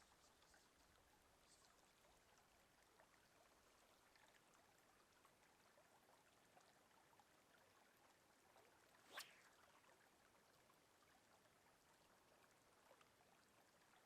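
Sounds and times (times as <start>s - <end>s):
faint outdoor background hiss: 0.0s - 14.0s.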